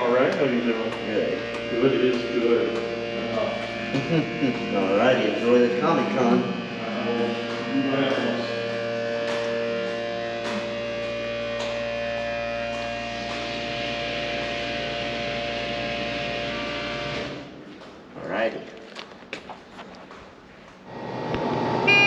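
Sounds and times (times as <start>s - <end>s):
elevator machinery electrical hum: 0.0s - 18.2s, 19.7s - 22.0s.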